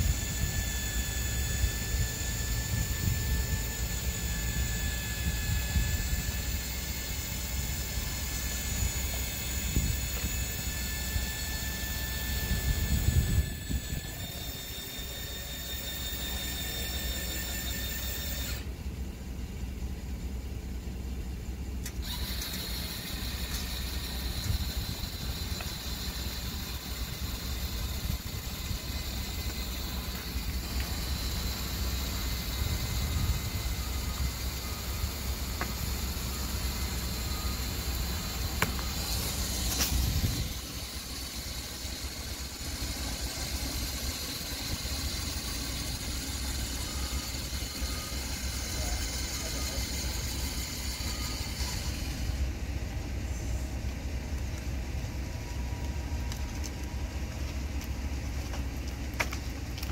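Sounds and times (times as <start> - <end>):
low mechanical rumble: 0.0 - 59.9.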